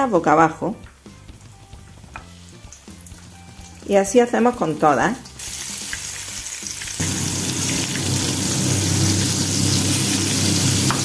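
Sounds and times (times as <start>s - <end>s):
food sizzling in hot oil: 0.8s - 11.0s.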